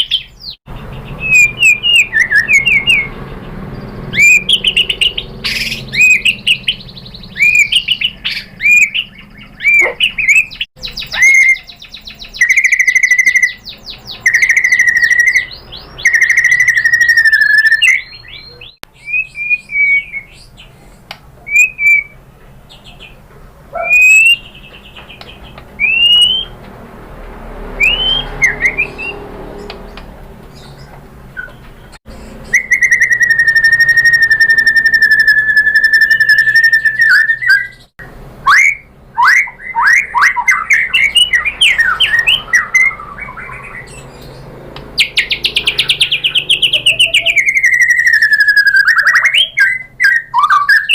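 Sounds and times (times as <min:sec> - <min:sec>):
songbird whistling and trilling: 0:00.0 - 0:26.6, 0:27.8 - 0:29.3, 0:29.9 - 0:44.4, 0:45.0 - 0:50.9.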